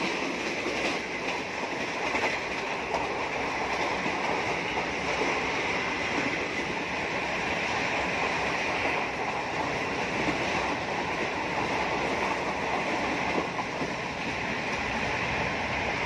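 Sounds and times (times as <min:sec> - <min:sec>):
train wheels rushing on rail: 0:00.0 - 0:16.0.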